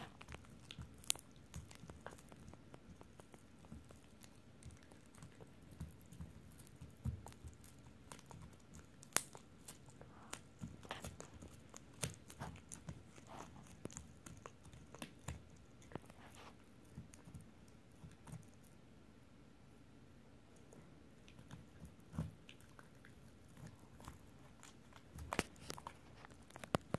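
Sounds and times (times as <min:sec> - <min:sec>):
dog chewing rawhide: 0:00.0 - 0:18.8, 0:21.2 - 0:26.9.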